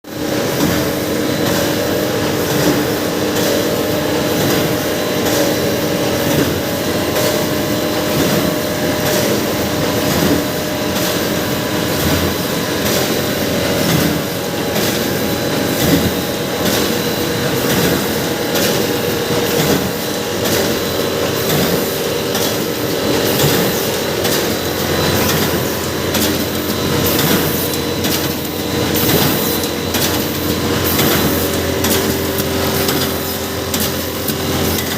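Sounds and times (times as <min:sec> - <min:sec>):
machine humming: 0:00.1 - 0:34.9
machine clattering: 0:00.4 - 0:34.9.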